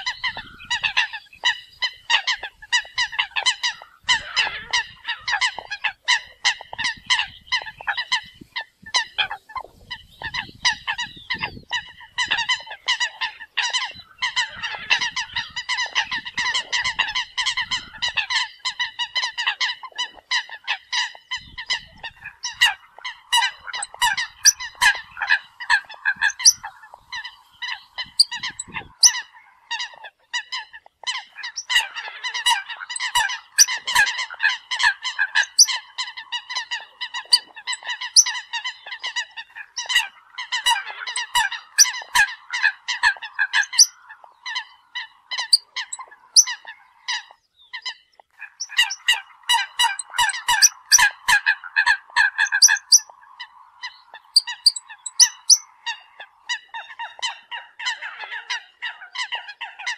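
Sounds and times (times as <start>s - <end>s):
coots calling: 0.0s - 59.9s.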